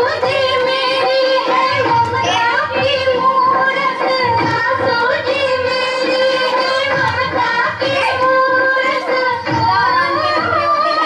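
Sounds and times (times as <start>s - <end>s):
high singing voice: 0.0s - 11.0s
instrumental backing music: 0.0s - 11.0s.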